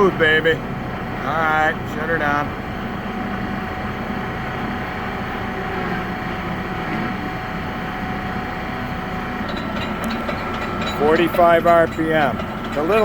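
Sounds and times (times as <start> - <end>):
lathe humming with thin whine: 0.0 - 13.0.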